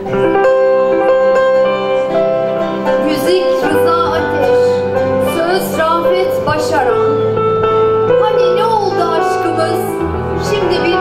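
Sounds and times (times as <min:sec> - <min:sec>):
slow instrumental ensemble music: 0:00.0 - 0:11.0.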